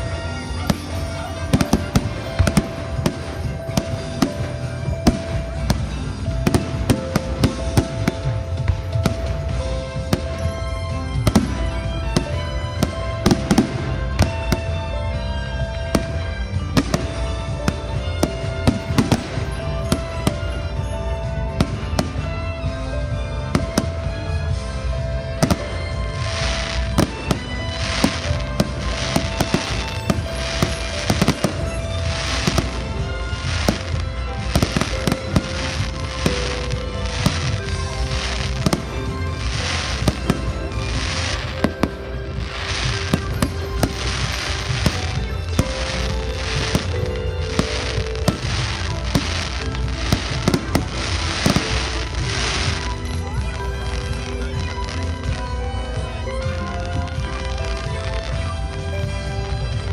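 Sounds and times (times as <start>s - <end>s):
fireworks bangs and crackles: 0.0s - 59.9s
music playing: 0.0s - 59.9s.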